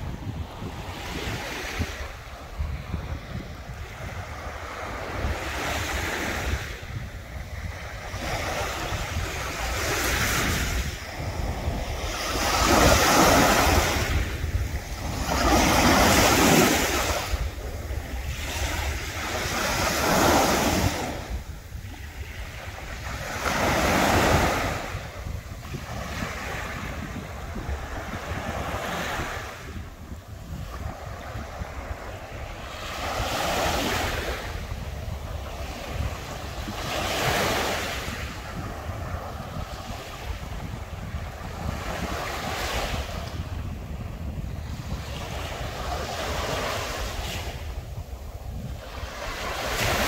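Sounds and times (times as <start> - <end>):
waves breaking on beach: 0.0 - 50.0
wind buffeting microphone: 0.0 - 50.0.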